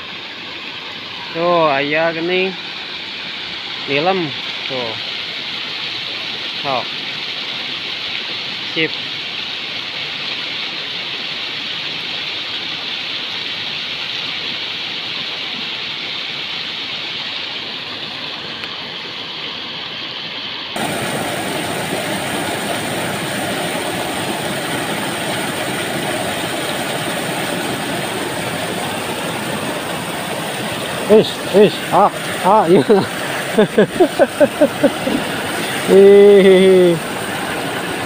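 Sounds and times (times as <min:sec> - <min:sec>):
water rushing through ditch: 0:00.0 - 0:38.0.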